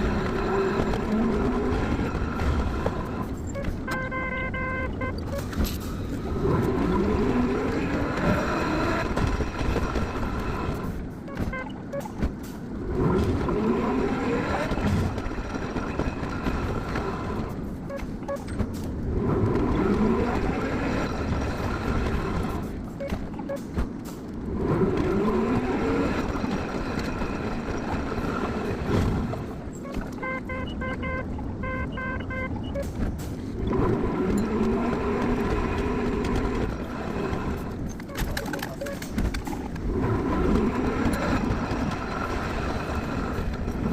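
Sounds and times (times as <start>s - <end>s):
tram motor whine: 0.0s - 38.1s, 39.7s - 43.9s.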